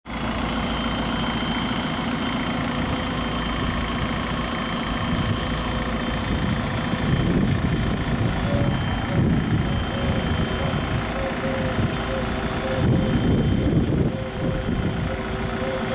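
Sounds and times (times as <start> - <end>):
diesel engine running: 0.1 - 15.9.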